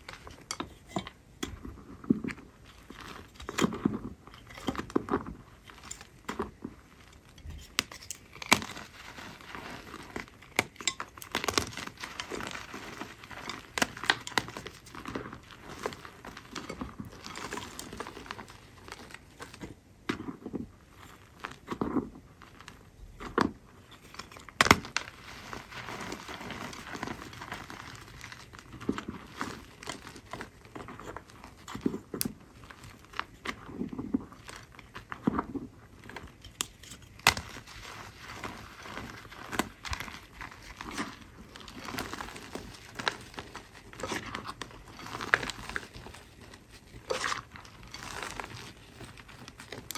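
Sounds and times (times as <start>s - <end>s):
hands crunching damp powder clumps: 1.6s - 36.4s, 37.0s - 49.9s.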